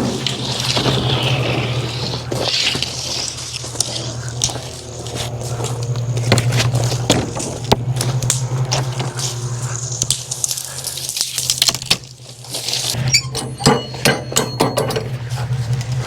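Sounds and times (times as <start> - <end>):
sawmill humming: 0.0 - 16.0.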